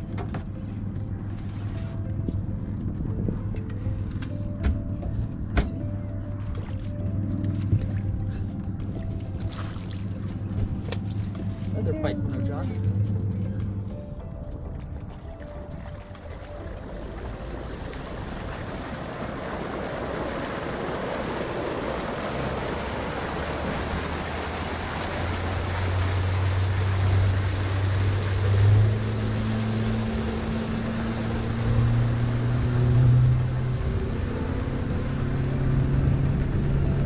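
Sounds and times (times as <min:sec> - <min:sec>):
low engine hum: 0:00.0 - 0:37.0
water lapping around boat: 0:00.0 - 0:37.0
wind: 0:00.0 - 0:37.0.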